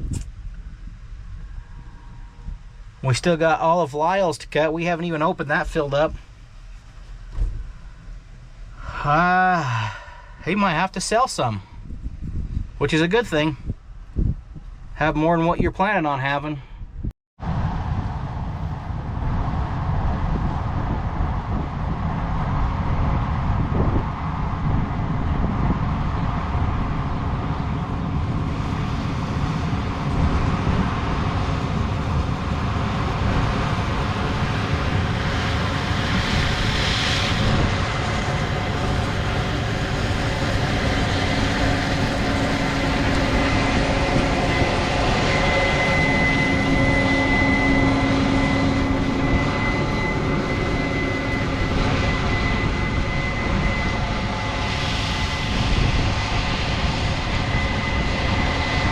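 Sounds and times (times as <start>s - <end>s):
truck engine rumbling: 0.0s - 15.1s, 17.0s - 58.9s
thin steady whine: 0.0s - 16.7s, 17.4s - 58.9s.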